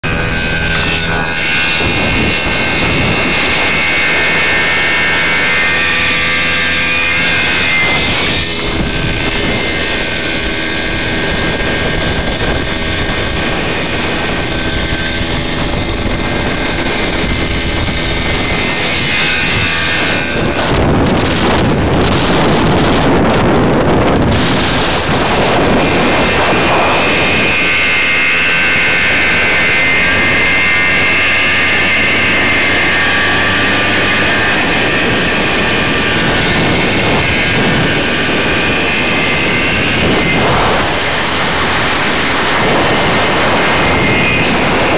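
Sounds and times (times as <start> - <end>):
two-stroke motorcycle engine: 0.0 - 44.9
wind rushing on microphone: 0.0 - 44.9.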